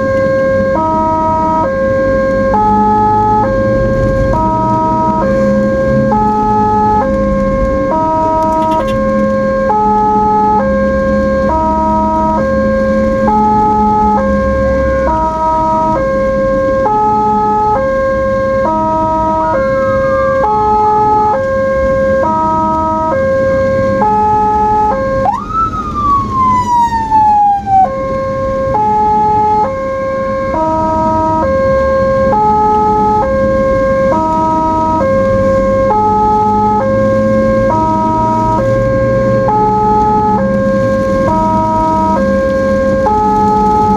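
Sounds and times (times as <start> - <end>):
ambulance hi-lo siren: 0.0 - 43.9
siren sweeping up and down: 0.0 - 43.9.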